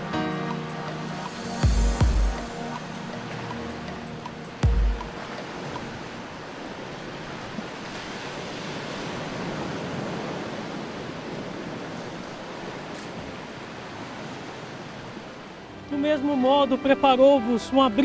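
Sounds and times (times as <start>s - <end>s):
sea surf washing: 0.0s - 18.0s.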